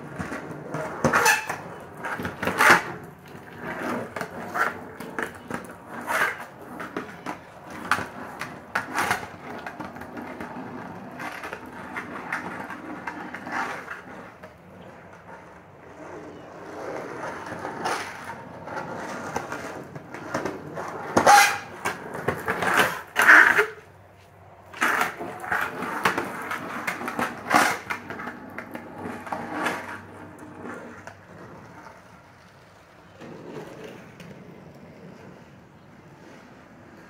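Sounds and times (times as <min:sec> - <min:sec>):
skateboard clacks and knocks: 0:00.0 - 0:23.8, 0:24.7 - 0:37.0
skateboard rolling on concrete: 0:00.0 - 0:37.0.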